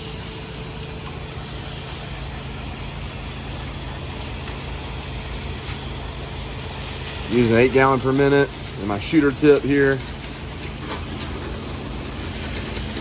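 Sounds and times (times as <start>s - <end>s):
pressure washer engine running: 0.0s - 13.0s
pressure washer jet hissing: 0.0s - 13.0s.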